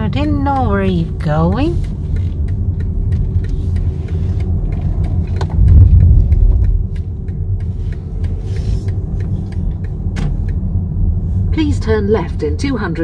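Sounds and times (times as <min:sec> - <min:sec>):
light regular ticking: 0:00.0 - 0:10.8
road and engine rumble in car: 0:00.0 - 0:13.0.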